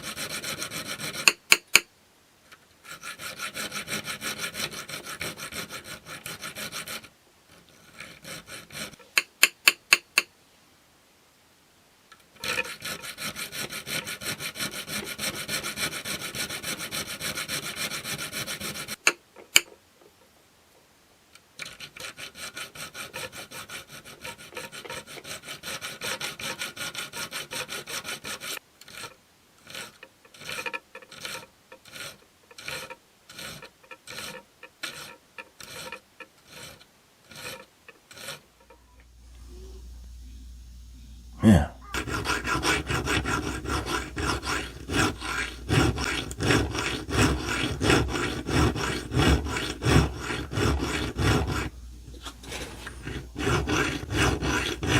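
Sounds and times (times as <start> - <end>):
file rasping on steel blade: 0.0 - 1.8, 2.8 - 10.3, 12.4 - 19.7, 21.6 - 38.8, 41.9 - 54.9.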